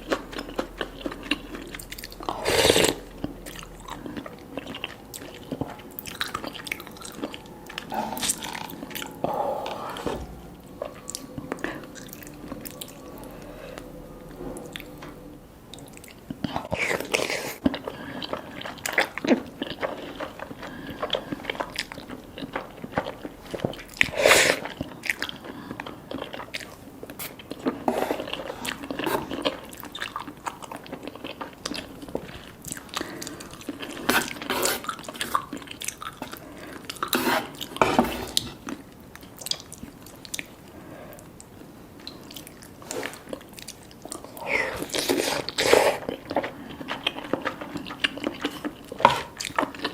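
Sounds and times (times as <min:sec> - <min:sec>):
person chewing: 0:00.0 - 0:49.9.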